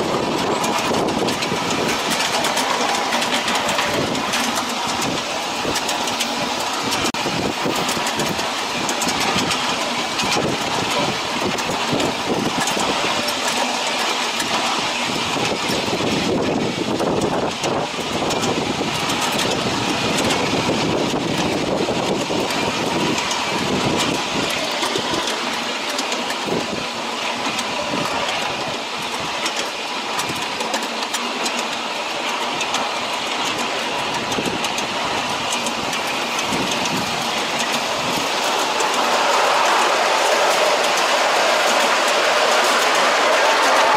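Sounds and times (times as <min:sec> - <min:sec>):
miniature train rattling on rails: 0:00.0 - 0:43.9.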